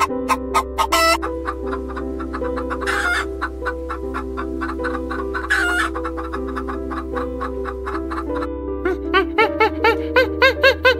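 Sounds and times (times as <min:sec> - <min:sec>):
chickens clucking: 0:00.0 - 0:10.8
slow sustained background music: 0:00.0 - 0:10.9.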